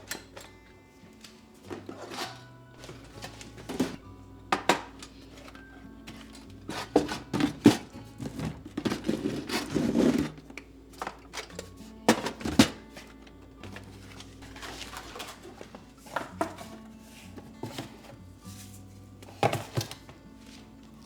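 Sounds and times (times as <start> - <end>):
utensils rattling clatter: 0.0 - 20.7
soft background music: 0.0 - 21.0
kitchen containers knocking: 1.7 - 18.2, 19.2 - 20.2.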